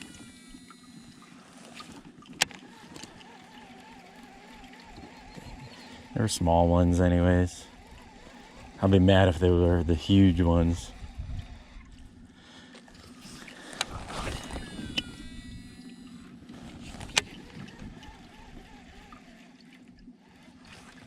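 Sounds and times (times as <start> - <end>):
low steady hum: 0.0 - 21.0
water noise: 0.0 - 21.0.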